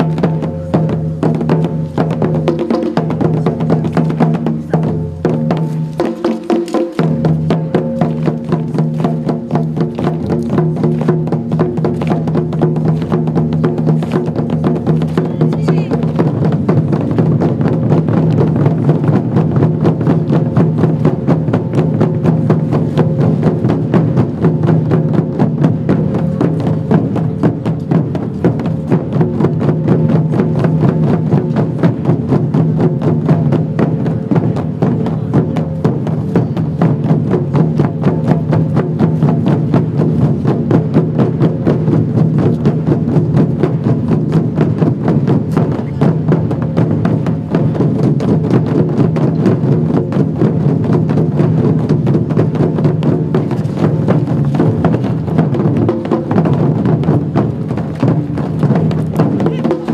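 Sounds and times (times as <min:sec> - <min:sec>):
barrel drums striking fast: 0:00.0 - 0:59.9
woodblock percussion: 0:00.0 - 0:59.9.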